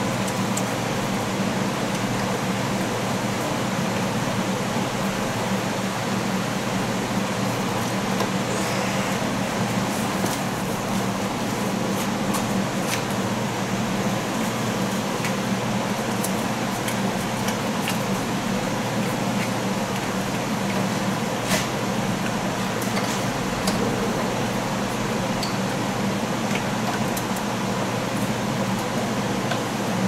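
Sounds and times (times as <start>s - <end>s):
fan-like mechanical hum: 0.0s - 30.0s.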